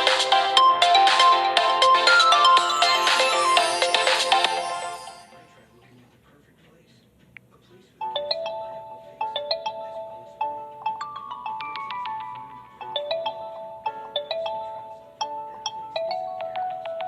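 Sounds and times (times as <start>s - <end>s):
phone ringtone melody: 0.0s - 5.7s, 8.0s - 17.0s.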